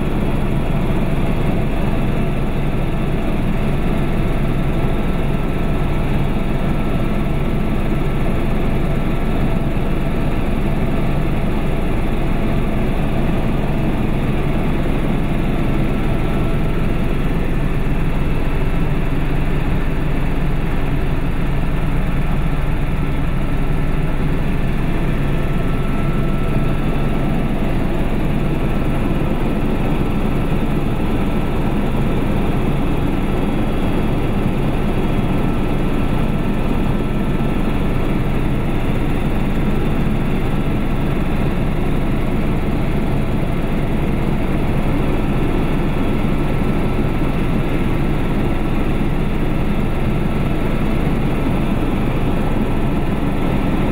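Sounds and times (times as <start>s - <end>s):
small aircraft engine drone: 0.0s - 53.9s.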